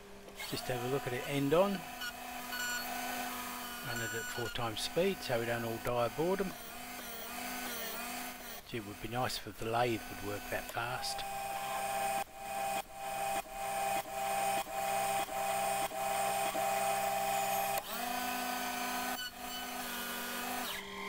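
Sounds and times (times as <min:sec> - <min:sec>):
lathe motor whine: 0:00.0 - 0:21.0.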